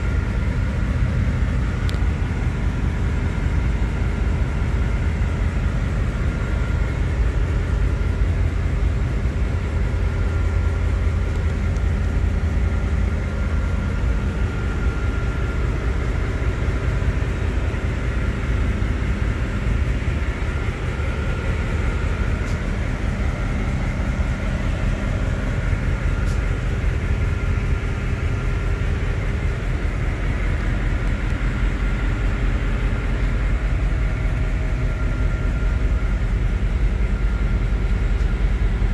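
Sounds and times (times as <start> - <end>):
engine-room machinery drone: 0.0 - 38.9
high steady whine: 0.0 - 38.9.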